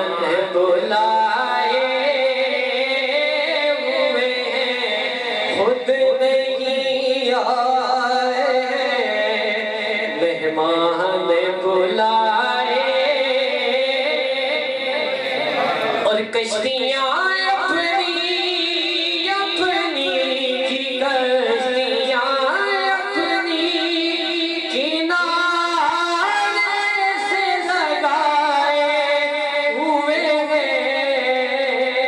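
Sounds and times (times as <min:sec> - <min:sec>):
man chanting into a microphone: 0:00.0 - 0:32.0.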